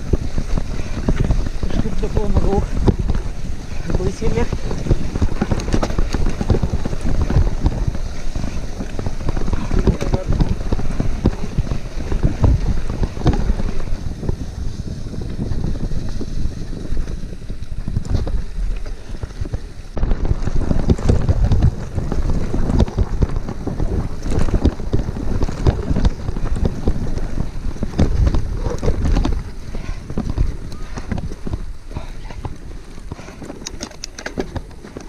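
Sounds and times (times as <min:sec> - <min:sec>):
bike knocks and rattles: 0:00.0 - 0:35.0
bike tyres rumbling on gravel: 0:00.0 - 0:35.0
wind buffeting microphone: 0:00.0 - 0:35.0.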